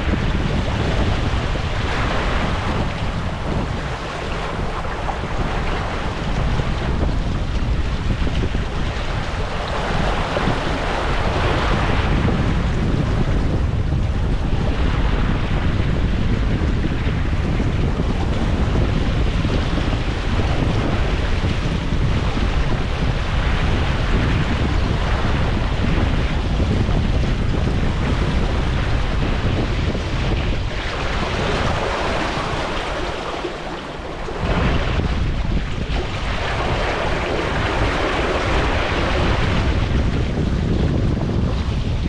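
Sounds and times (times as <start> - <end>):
water rushing along boat hull: 0.0 - 42.0
waves washing past hull: 0.0 - 42.0
wind buffeting microphone: 0.0 - 42.0.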